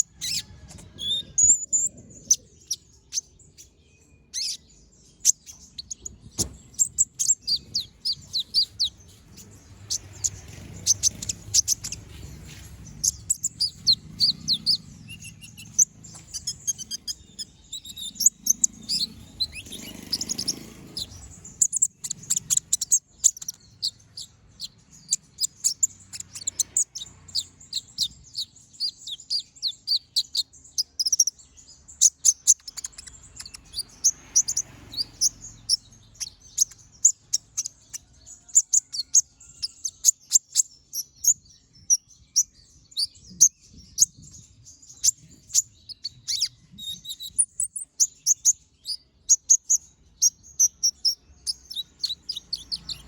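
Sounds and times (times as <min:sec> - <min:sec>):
bird chirping rapidly: 0:00.0 - 0:53.0.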